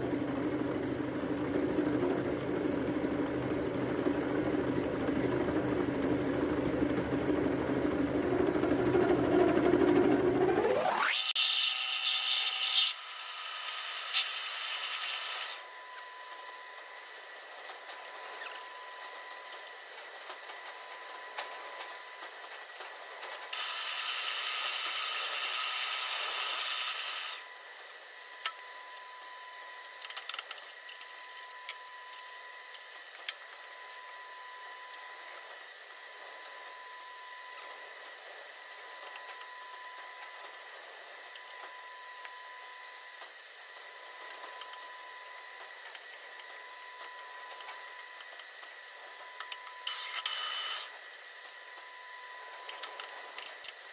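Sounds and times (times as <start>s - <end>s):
faint steady machine whine: 0.0s - 53.9s.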